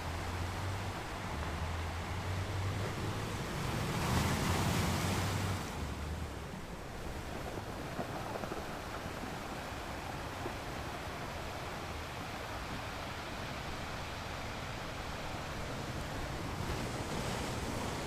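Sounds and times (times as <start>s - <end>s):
low rumble of surf: 0.0s - 18.0s
ocean waves washing on shore: 0.0s - 18.0s.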